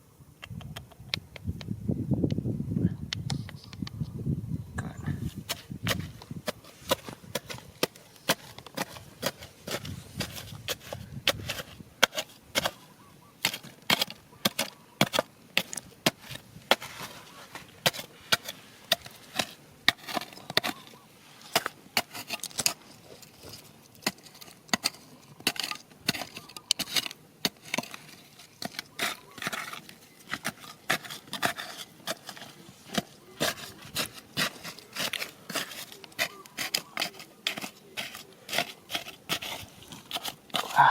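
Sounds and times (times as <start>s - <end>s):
hand tool striking stones: 5.4s - 40.9s.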